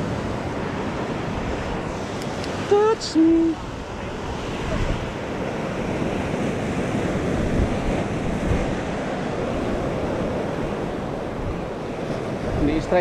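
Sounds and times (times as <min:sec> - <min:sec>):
surf washing over rocks: 0:00.0 - 0:13.0
wind on microphone: 0:00.0 - 0:13.0.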